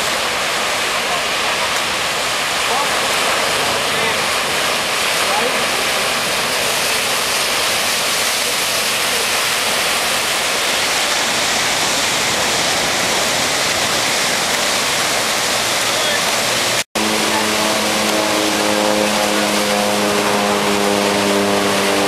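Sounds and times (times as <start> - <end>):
ocean surf rushing ashore: 0.0 - 22.0.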